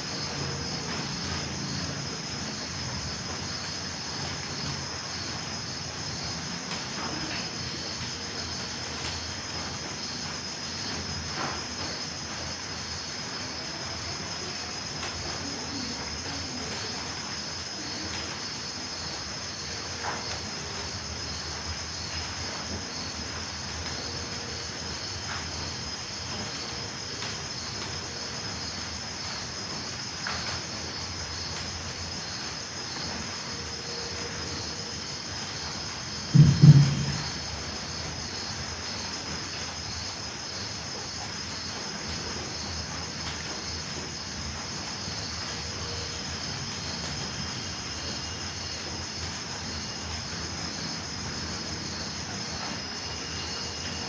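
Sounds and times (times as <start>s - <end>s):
crickets trilling: 0.0s - 54.0s
faint steady hiss: 0.0s - 54.0s
pulsed cricket chirp: 0.0s - 54.0s.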